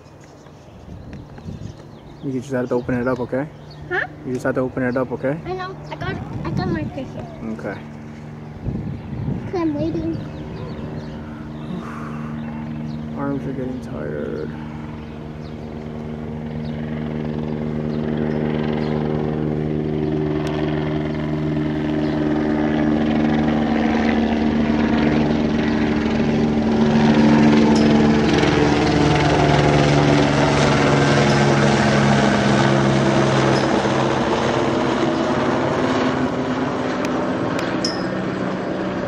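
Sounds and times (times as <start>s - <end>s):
aircraft engine drone: 0.0s - 39.0s.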